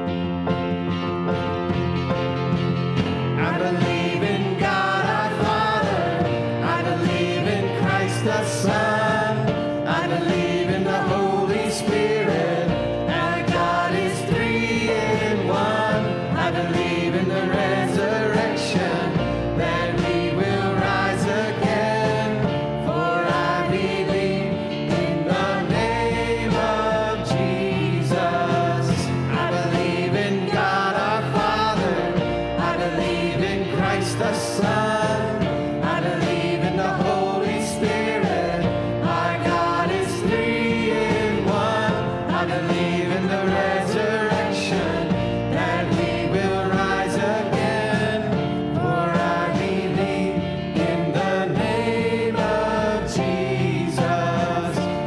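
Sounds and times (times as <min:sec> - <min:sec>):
worship band playing: 0:00.0 - 0:55.0
voices singing in harmony: 0:03.0 - 0:55.0.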